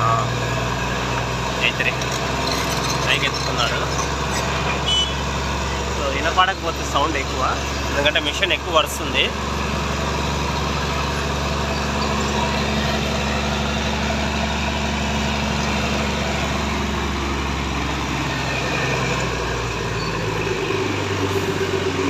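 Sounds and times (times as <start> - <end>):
crane engine running hard: 0.0 - 22.0.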